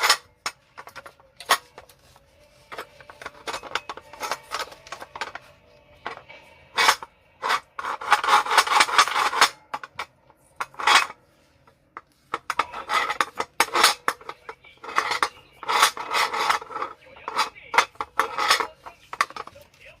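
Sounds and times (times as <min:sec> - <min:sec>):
metal scraping and rubbing: 0:00.0 - 0:20.0.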